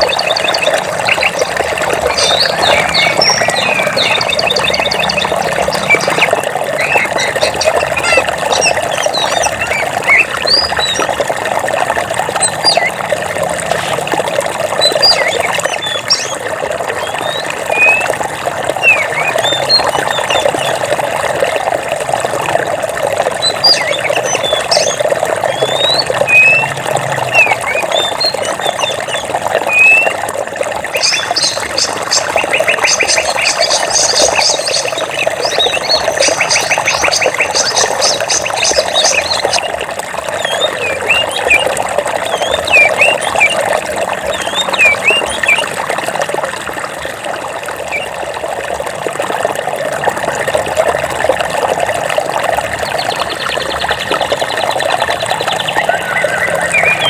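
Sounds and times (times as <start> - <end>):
birds chirping: 0.0 - 11.3, 12.2 - 21.0, 23.2 - 30.2, 30.8 - 45.8, 52.7 - 57.0
water flowing in a stream: 0.0 - 57.0.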